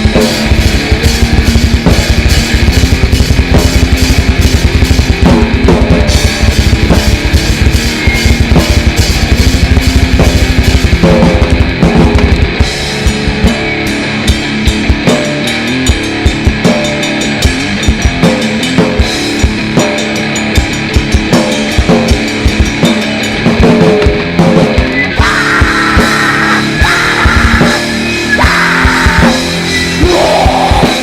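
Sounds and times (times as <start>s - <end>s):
distorted guitar: 0.0s - 31.0s
drum kit: 0.0s - 31.0s.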